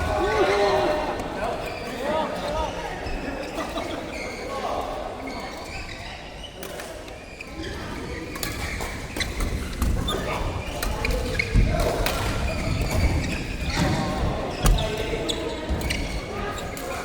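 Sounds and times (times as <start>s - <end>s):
players' voices: 0.0s - 17.0s.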